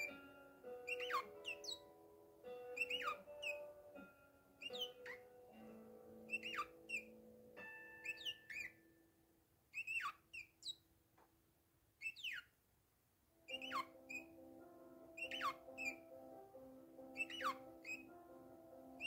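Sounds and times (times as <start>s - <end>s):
parakeet chirping: 0.0s - 5.5s, 6.2s - 8.9s, 9.7s - 10.9s, 12.0s - 12.6s, 13.4s - 19.0s
soft background music: 0.0s - 10.8s, 13.3s - 19.0s.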